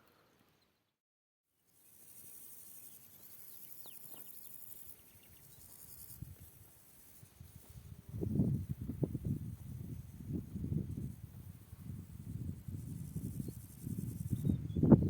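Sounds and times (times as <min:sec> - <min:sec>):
high-pitched insect chorus: 0:01.8 - 0:15.0.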